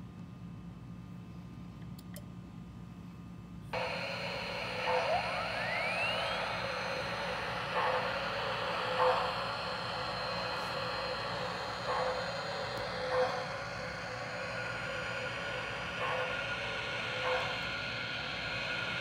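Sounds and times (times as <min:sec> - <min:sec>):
low hum: 0:03.7 - 0:19.0
steam hiss: 0:03.8 - 0:19.0
whine rising in pitch: 0:03.8 - 0:19.0.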